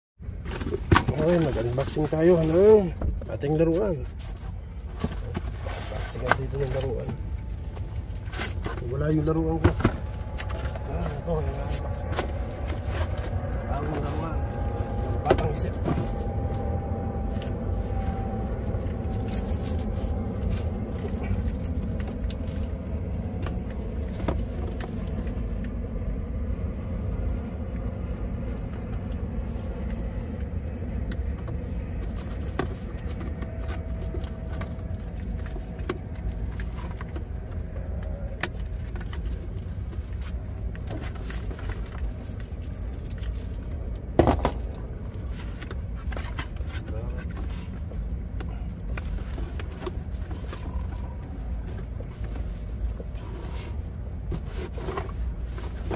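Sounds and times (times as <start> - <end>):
steady low rumble: 0.2 - 55.9.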